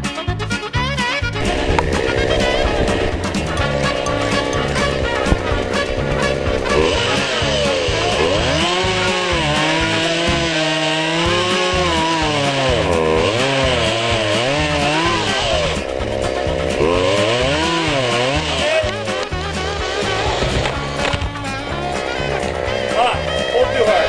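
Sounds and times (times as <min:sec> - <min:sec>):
background music: 0:00.0 - 0:24.0
chainsaw cutting: 0:01.0 - 0:24.0.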